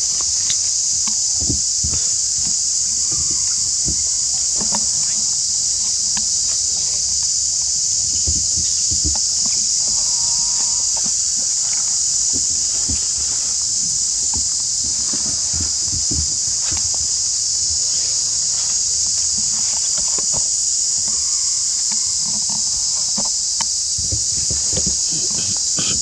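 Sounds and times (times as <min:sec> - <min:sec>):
rustles and taps in grass: 0:00.0 - 0:21.2, 0:21.8 - 0:26.0
insects chirring: 0:00.0 - 0:26.0.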